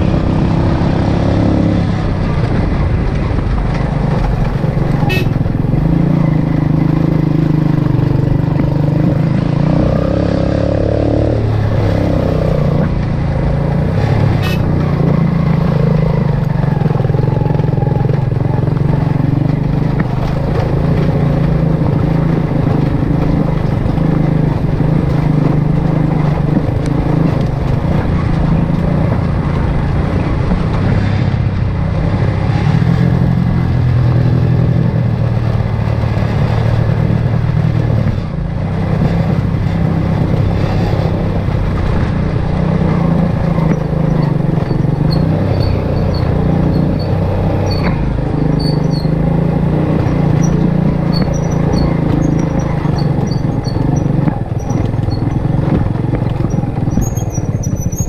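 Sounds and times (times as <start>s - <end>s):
motorcycle engine under load: 0.0s - 58.0s.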